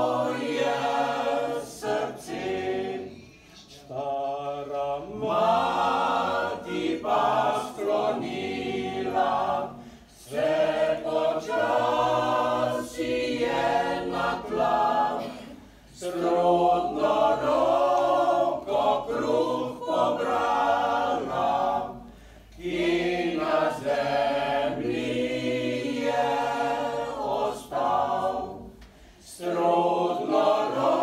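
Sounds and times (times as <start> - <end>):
choir singing a cappella: 0.0 - 31.0.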